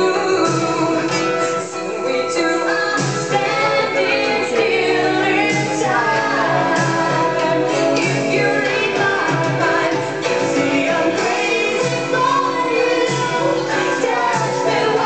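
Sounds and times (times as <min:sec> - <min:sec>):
song with singing: 0:00.0 - 0:15.0.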